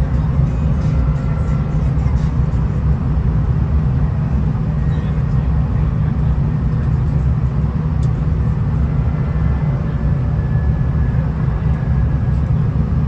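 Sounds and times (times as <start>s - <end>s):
diesel railcar rumbling: 0.0s - 13.0s.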